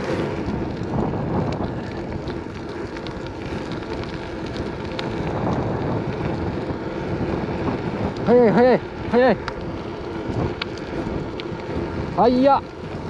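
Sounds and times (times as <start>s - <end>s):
tyres rumbling on asphalt: 0.0s - 13.0s
wind buffeting microphone: 0.0s - 13.0s.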